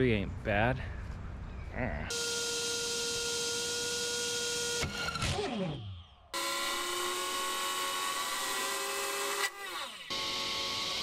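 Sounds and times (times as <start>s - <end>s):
drone motor whining: 2.1s - 11.0s.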